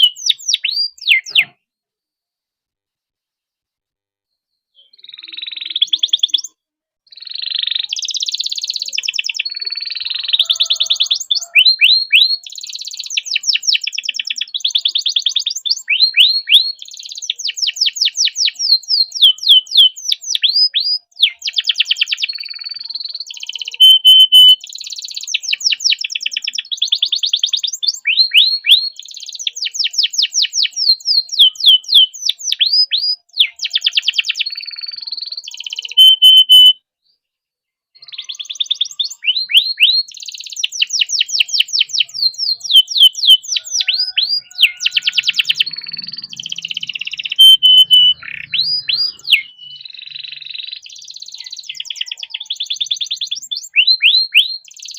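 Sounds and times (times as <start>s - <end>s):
canary singing trills: 0.0s - 1.6s, 4.7s - 36.8s, 38.0s - 54.9s.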